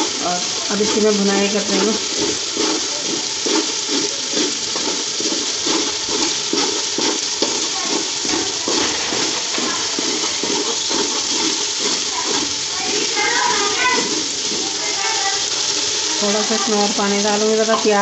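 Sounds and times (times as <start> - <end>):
masala sizzling in a pot: 0.0 - 18.0
metal ladle scraping a pot: 0.5 - 16.7.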